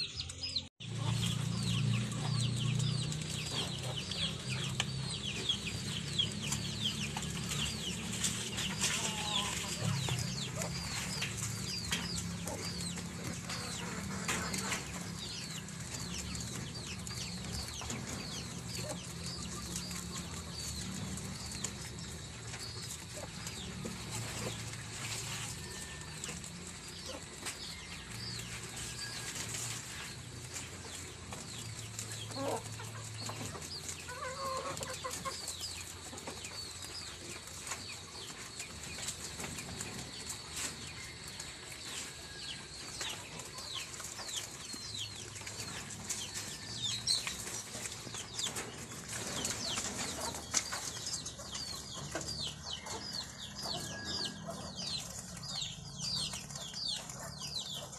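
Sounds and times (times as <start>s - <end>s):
chickens clucking: 0.0s - 57.9s
small birds chirping: 0.0s - 57.9s.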